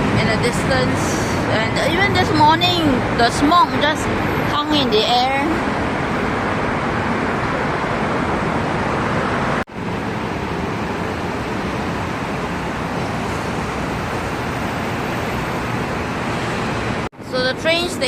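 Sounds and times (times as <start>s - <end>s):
road traffic rushing past: 0.0s - 18.0s.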